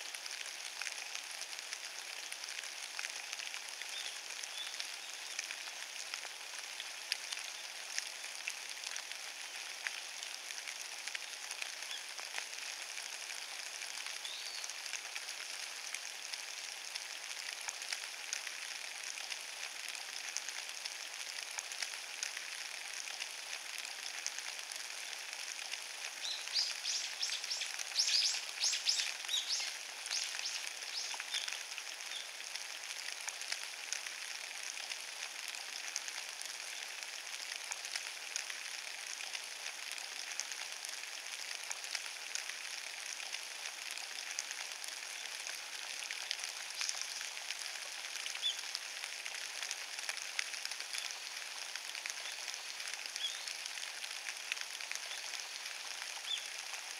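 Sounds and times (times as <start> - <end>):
rain pattering on leaves: 0.0 - 56.9.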